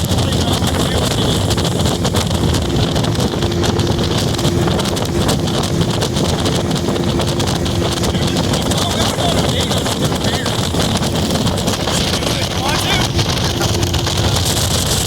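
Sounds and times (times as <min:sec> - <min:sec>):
outboard motor running: 0:00.0 - 0:15.0
wind noise on microphone: 0:00.0 - 0:15.0.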